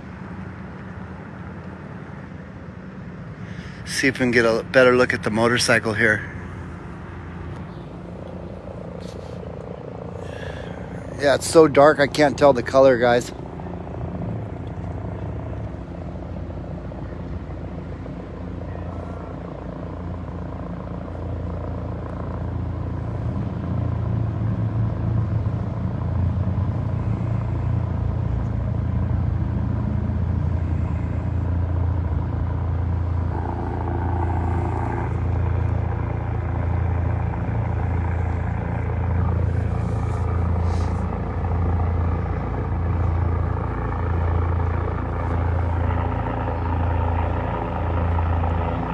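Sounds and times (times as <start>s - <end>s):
helicopter rotor throbbing: 0.0s - 48.9s.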